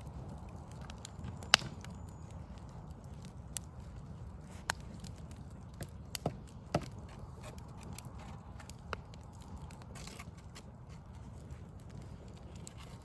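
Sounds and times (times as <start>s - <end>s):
sharp fire pops: 0.0s - 13.0s
wood fire crackling: 0.0s - 13.0s.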